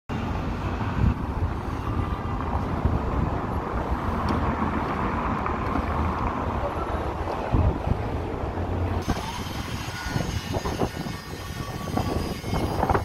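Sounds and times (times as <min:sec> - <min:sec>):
street traffic: 0:00.1 - 0:13.0
wind buffeting microphone: 0:00.4 - 0:13.0.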